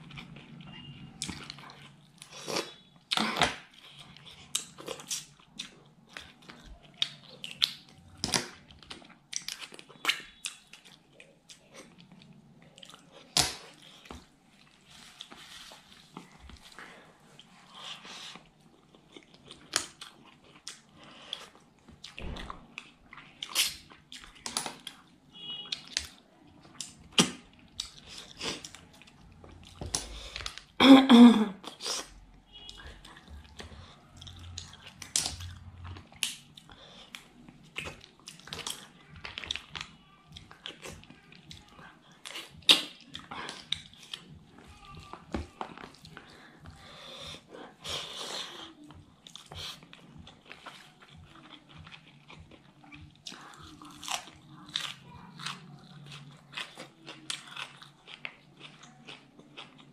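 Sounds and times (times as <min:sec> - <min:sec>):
close-up chewing with wet smacks: 0:00.0 - 0:30.8, 0:31.6 - 0:59.9.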